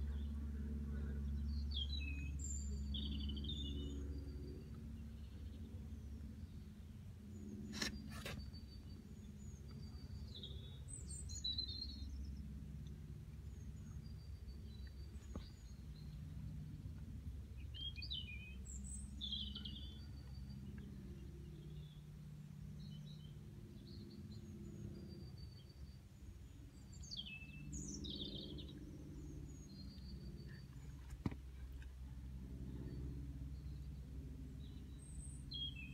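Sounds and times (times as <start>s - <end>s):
low background rumble: 0.0s - 35.9s.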